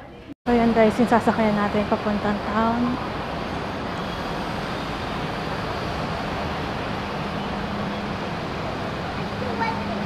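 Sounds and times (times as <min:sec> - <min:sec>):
rumble and hiss of bus station: 0:00.0 - 0:10.0
bus idling: 0:00.5 - 0:10.0.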